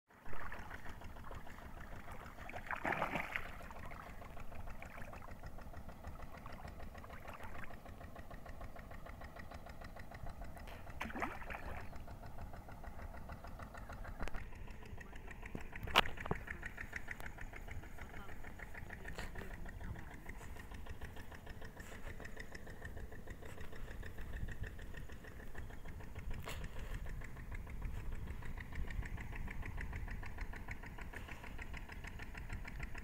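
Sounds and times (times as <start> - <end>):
motor running with fast pulse: 0.1 - 33.0.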